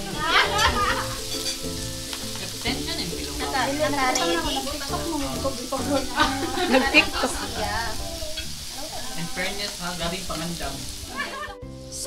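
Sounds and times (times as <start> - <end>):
background music: 0.0 - 12.0
meat sizzling on a grill: 0.0 - 12.0
voices: 0.0 - 12.0.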